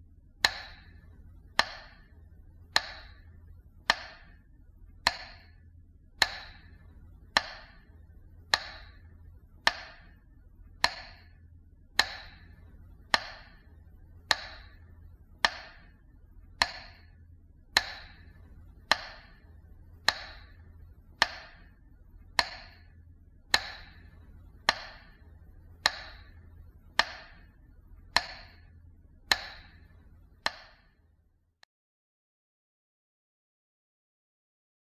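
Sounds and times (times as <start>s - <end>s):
faint low hum: 0.0s - 31.7s
metronome clicking: 0.4s - 11.4s, 12.0s - 31.0s.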